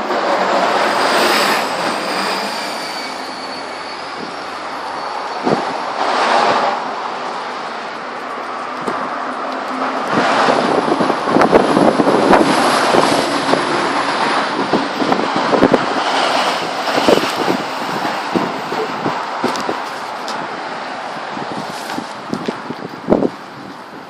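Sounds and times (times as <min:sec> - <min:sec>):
strong wind rushing: 0:00.0 - 0:24.0
wind buffeting microphone: 0:04.0 - 0:24.0.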